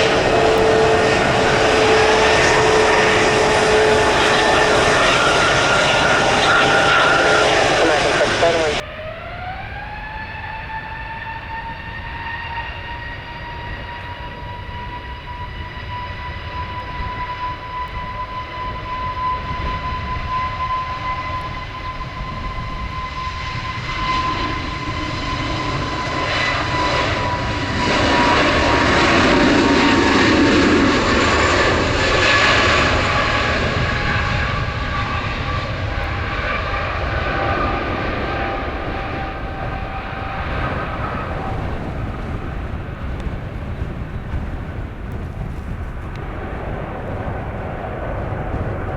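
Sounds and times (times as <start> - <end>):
jet engine roar: 0.0 - 48.9
jet engines whining: 0.0 - 48.9.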